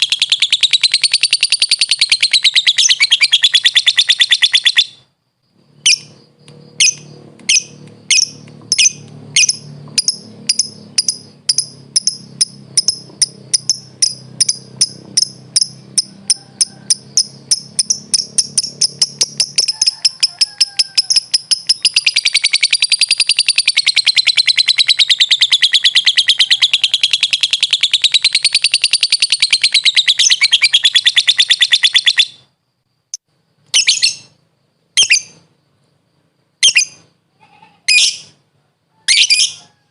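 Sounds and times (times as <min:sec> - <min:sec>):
lovebird chirping and chattering: 0:00.0 - 0:05.1, 0:05.7 - 0:32.5, 0:33.1 - 0:34.4, 0:35.0 - 0:35.5, 0:36.6 - 0:38.4, 0:39.1 - 0:39.6.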